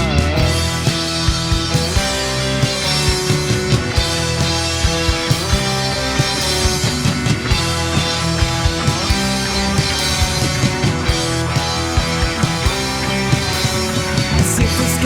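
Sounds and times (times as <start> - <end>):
bass guitar: 0.0 - 15.0
electric guitars: 0.0 - 15.0
steady drum beat: 0.0 - 15.0.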